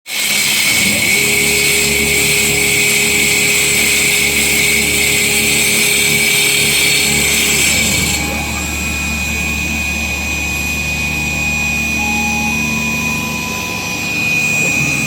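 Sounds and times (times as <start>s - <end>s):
stone cutting machine hissing: 0.1s - 15.0s
low machine hum: 0.7s - 15.0s
steady tone: 0.8s - 15.0s.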